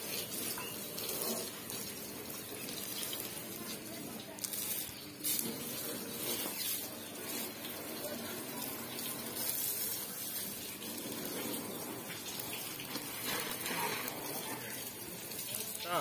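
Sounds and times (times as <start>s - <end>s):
hose water splashing on metal: 0.0s - 16.0s.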